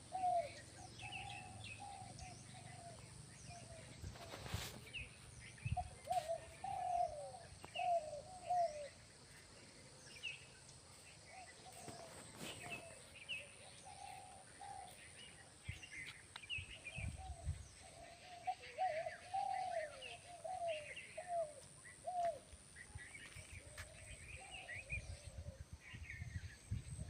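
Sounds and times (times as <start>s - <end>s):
birds chirping thinly: 0.0s - 26.9s.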